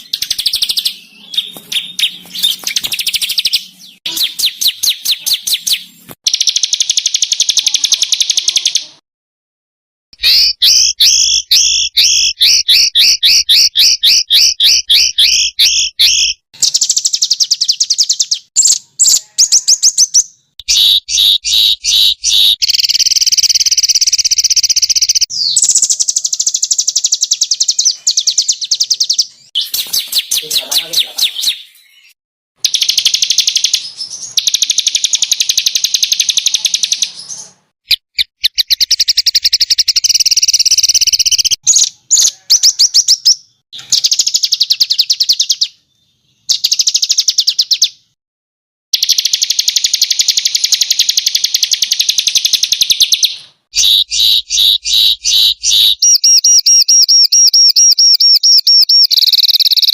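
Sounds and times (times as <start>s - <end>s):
songbirds harsh rapid song: 0.0s - 9.0s, 10.2s - 48.2s, 49.0s - 59.9s.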